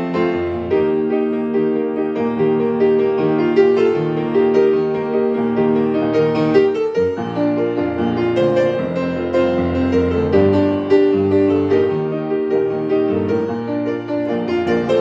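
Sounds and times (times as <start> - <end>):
grand piano show tune: 0.0 - 15.0.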